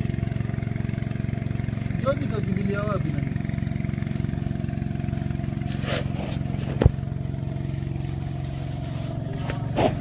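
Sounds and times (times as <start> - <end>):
engine-driven water pump running: 0.0 - 10.0.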